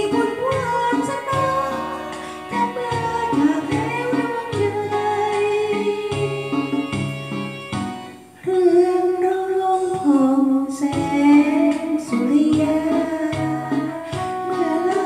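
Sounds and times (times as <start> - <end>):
woman singing: 0.0 - 7.3, 8.4 - 15.0
karaoke backing track: 0.0 - 15.0.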